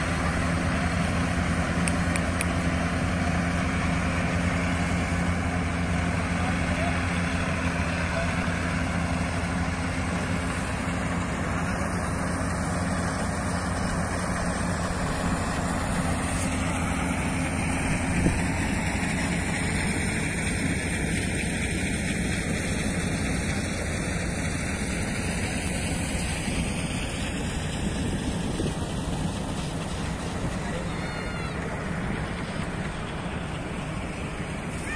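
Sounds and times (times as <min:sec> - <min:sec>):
combine harvester engine drone: 0:00.0 - 0:34.9.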